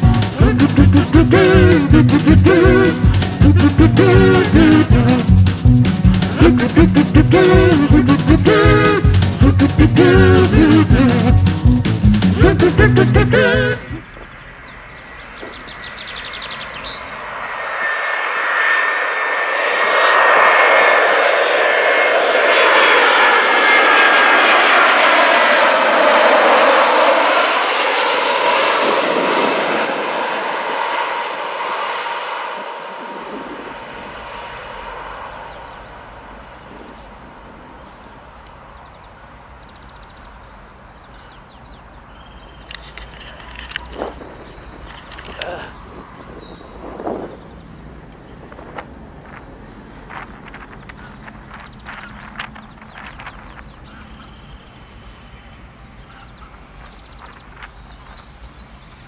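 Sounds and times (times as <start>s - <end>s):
high jet engine whine: 0.0s - 59.0s
jet airliner passing overhead: 0.0s - 59.0s.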